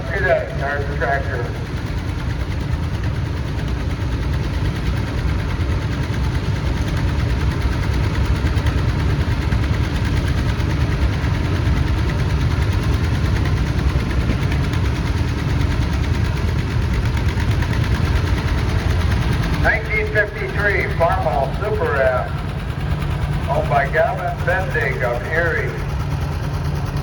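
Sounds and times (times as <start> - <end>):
tractor engines rumbling: 0.0 - 27.0.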